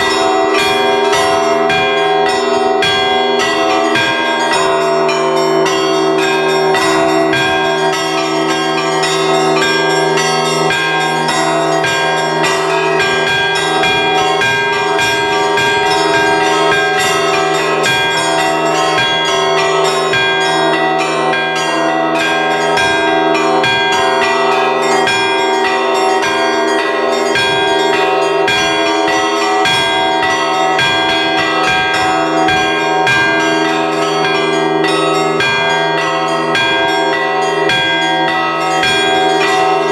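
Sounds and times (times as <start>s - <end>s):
large bells humming: 0.0s - 39.9s
small church bells striking: 0.0s - 39.9s.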